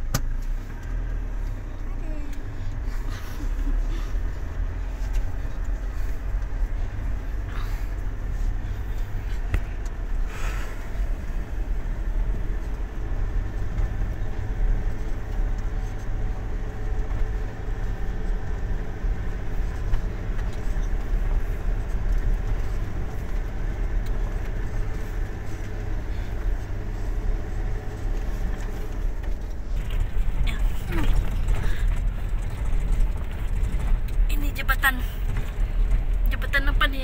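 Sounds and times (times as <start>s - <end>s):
tyres on gravel road: 0.0s - 37.0s
vehicle engine running: 0.0s - 37.0s.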